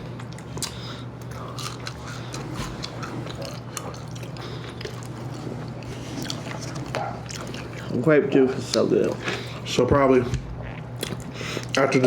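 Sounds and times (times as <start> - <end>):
chewing and sipping mouth sounds: 0.0 - 9.7, 10.6 - 12.0
steady low hum: 0.0 - 12.0.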